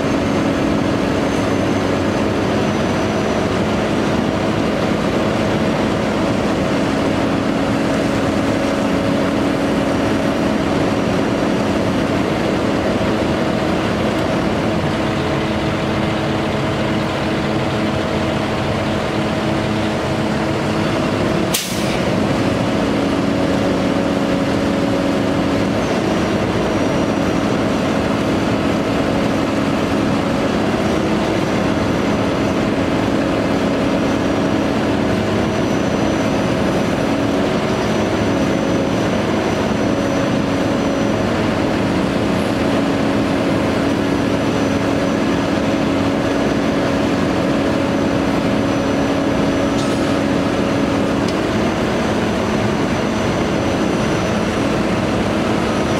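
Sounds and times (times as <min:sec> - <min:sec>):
hydraulic pump drone: 0:00.0 - 0:55.9
truck engine running: 0:00.0 - 0:55.9.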